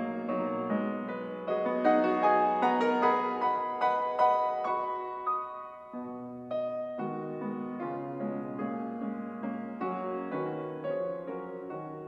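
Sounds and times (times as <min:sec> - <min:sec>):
solo grand piano playing: 0:00.0 - 0:12.0.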